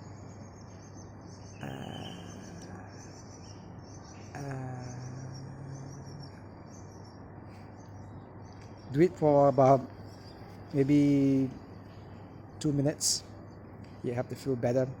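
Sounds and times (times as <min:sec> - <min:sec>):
faint high chirping: 0:00.0 - 0:15.0
steady low hum: 0:00.0 - 0:15.0.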